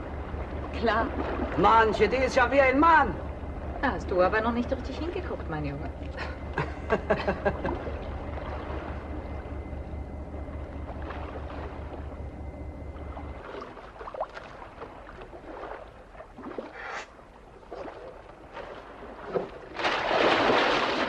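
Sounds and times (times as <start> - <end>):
boat engine humming: 0.0 - 21.0
sea wash: 0.0 - 21.0
wind: 0.0 - 21.0.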